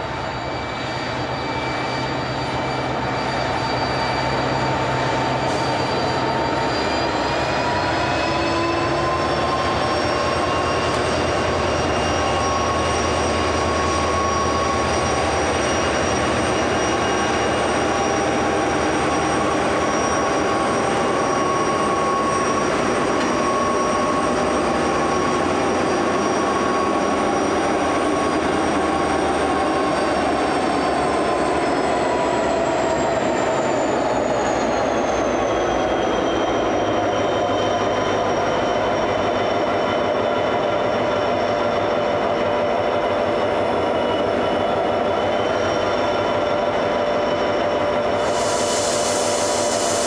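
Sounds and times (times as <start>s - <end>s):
diesel train rumbling slowly past: 0.0s - 50.0s.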